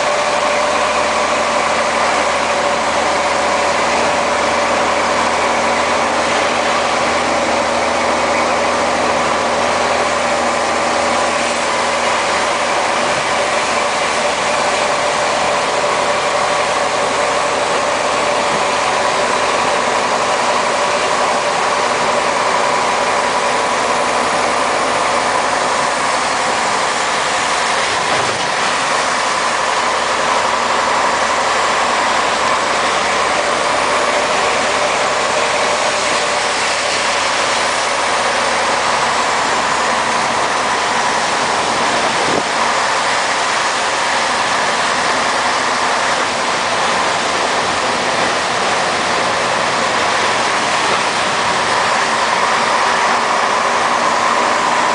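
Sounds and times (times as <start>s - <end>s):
diesel truck engine droning: 0.0s - 54.9s.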